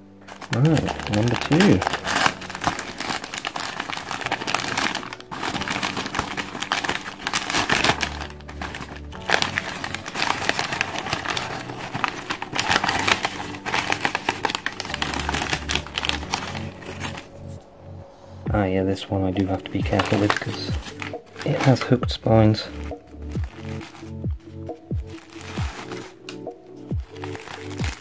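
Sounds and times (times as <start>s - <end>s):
newspaper rustling: 0.0s - 17.6s, 18.9s - 28.0s
background music: 0.0s - 28.0s.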